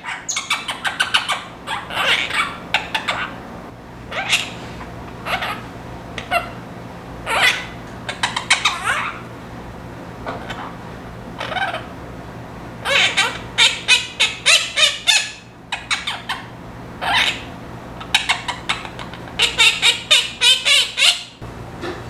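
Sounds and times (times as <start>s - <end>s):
parrot squawking: 0.0s - 3.5s, 4.1s - 6.6s, 7.2s - 9.3s, 10.3s - 10.8s, 11.4s - 12.0s, 12.8s - 21.4s.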